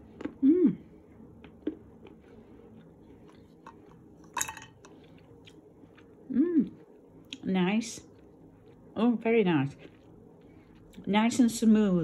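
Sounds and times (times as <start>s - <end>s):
chewing chocolate: 1.4s - 11.4s.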